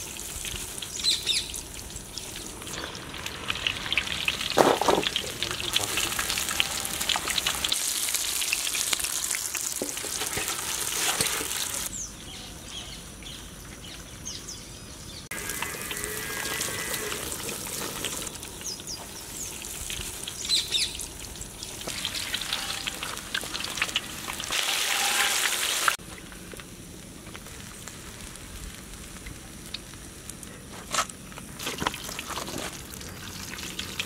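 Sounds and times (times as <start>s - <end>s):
food deep-frying in oil: 0.0s - 11.9s, 15.3s - 34.0s.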